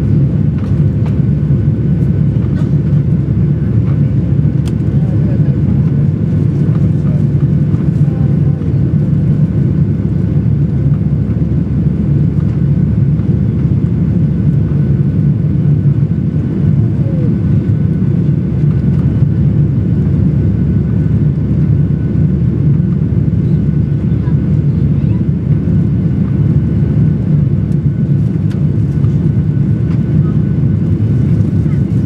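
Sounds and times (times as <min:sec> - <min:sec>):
airflow over fuselage: 0:00.0 - 0:32.0
jet engine low rumble: 0:00.0 - 0:32.0.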